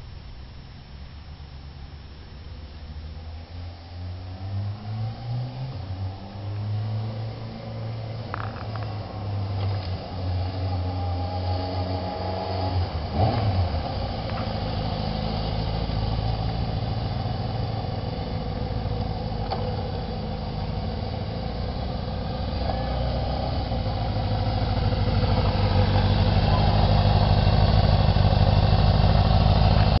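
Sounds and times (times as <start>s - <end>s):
motorcycle engine running: 5.8s - 30.0s.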